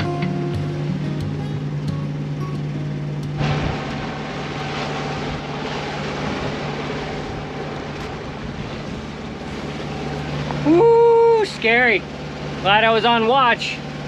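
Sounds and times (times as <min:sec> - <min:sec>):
low steady hum: 0:00.0 - 0:14.0
water rushing along a hull: 0:00.0 - 0:14.0
wind: 0:00.0 - 0:14.0.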